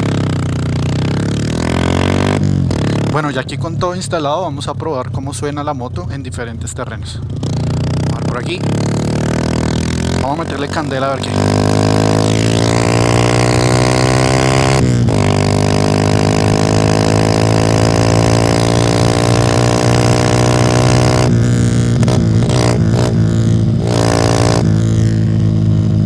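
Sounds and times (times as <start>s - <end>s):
motorcycle exhaust revving: 0.0s - 26.0s.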